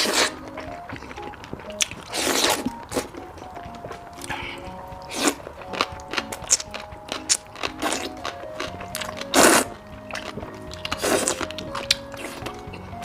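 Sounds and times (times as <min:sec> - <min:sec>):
crunchy chewing of fried food: 0:00.0 - 0:13.0
soft background music: 0:00.0 - 0:13.0.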